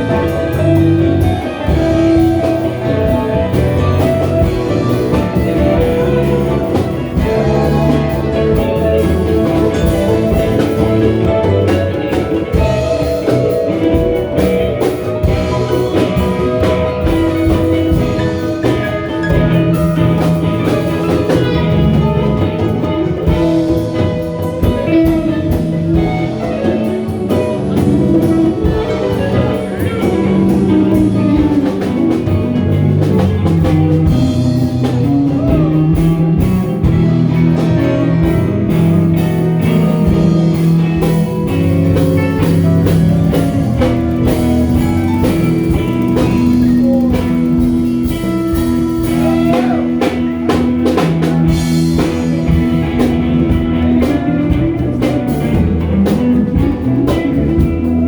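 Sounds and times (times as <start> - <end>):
drums: 0.0 - 58.0
guitar: 0.0 - 58.0
live band playing: 0.0 - 58.0.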